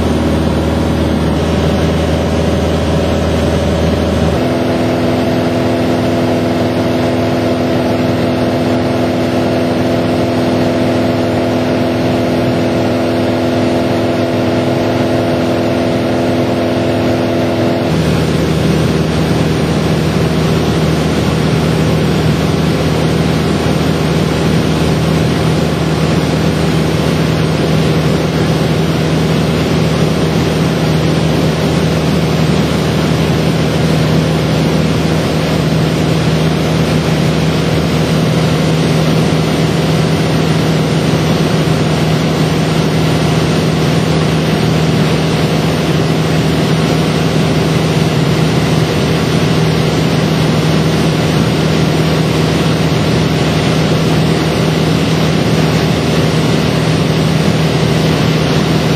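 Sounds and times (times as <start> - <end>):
jet engines and airflow roaring: 0.0 - 58.9.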